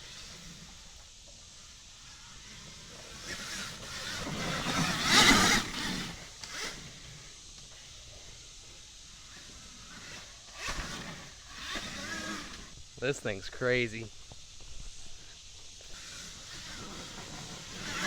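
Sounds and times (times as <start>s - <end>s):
electric dirt bike passing: 0.0s - 18.0s.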